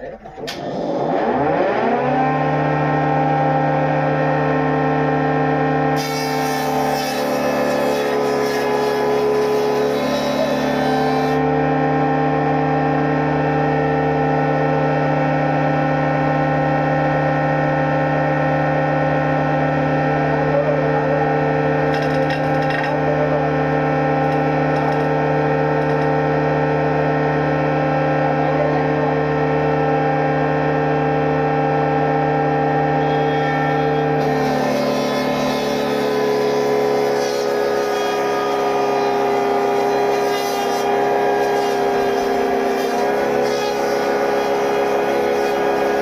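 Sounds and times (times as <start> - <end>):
woodworking machine humming: 0.0 - 46.0.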